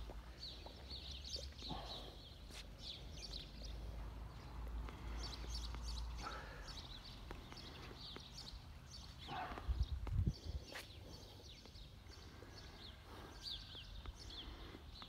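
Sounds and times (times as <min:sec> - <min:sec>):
footsteps on stone paving: 0:00.0 - 0:12.2
small birds chirping: 0:00.0 - 0:15.0.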